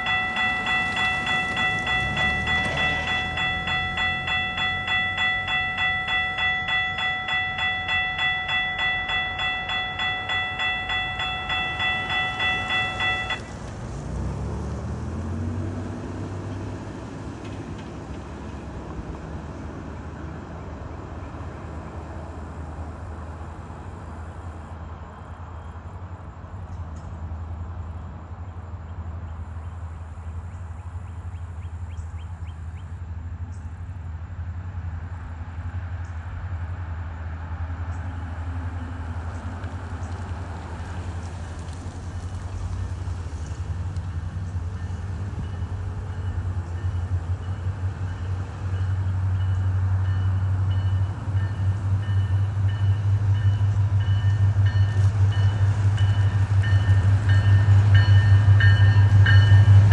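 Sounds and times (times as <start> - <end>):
diesel locomotive engine hum: 0.0 - 59.9
outdoor noise: 0.0 - 59.9.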